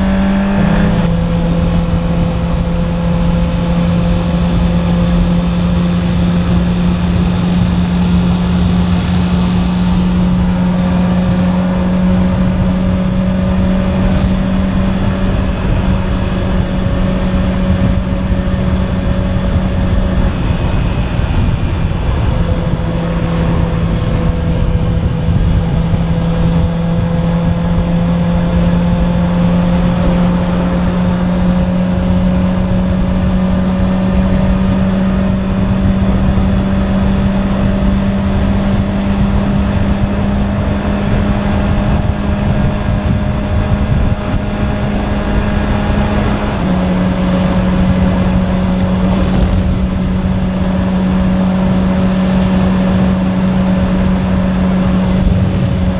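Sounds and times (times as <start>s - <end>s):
motorcycle engine under way: 0.0s - 55.9s
wind rushing on microphone: 0.0s - 55.9s.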